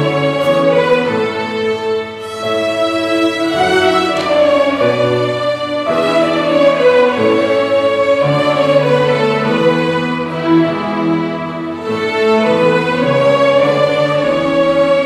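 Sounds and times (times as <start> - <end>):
cello line: 0.0 - 15.0
violins playing a melody: 0.0 - 15.0.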